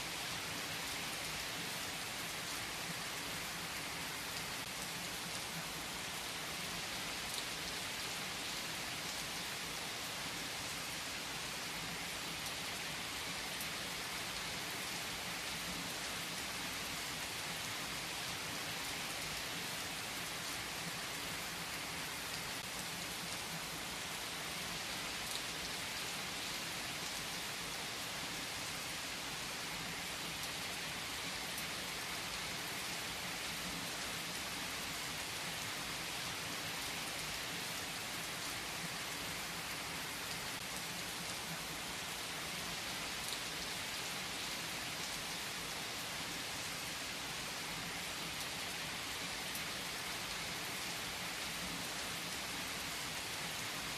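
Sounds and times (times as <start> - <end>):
steady rain on a surface: 0.0 - 53.9.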